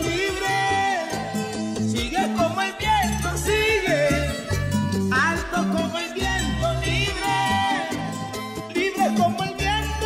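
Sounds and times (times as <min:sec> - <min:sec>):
held bass notes: 0:00.0 - 0:10.0
latin-style song with singing: 0:00.0 - 0:10.0.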